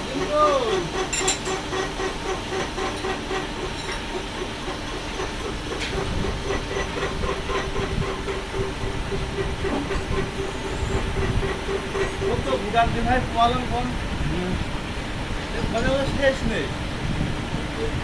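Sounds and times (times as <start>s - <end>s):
metal lathe running: 0.0s - 18.0s.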